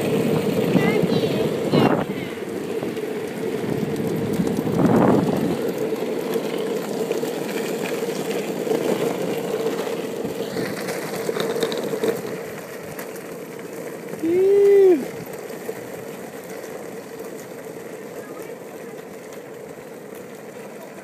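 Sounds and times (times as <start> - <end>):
skateboard wheels rolling on pavement: 0.0 - 21.0.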